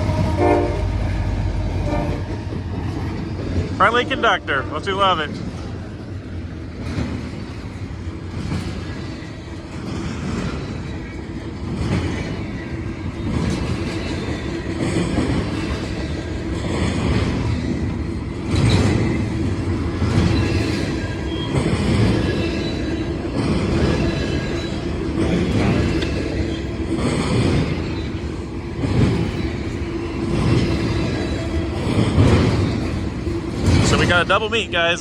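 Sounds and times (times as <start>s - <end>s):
freight train rumbling past: 0.0s - 35.0s
wheels clacking over rail joints: 5.3s - 35.0s.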